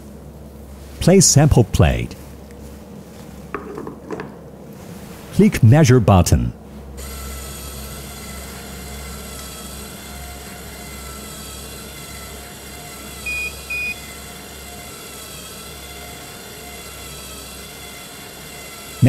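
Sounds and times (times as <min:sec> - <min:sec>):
analyzer motor hum with whine: 0:00.0 - 0:19.0.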